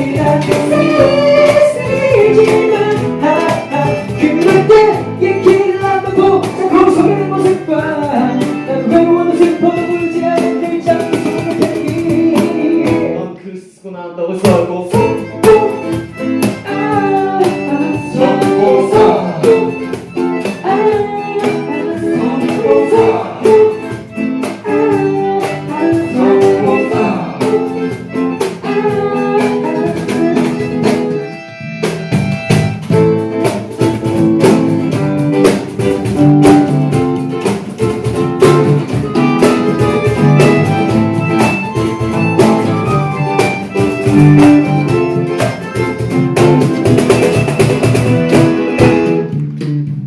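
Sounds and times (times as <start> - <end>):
rock band playing: 0.0 - 13.2, 14.5 - 50.0.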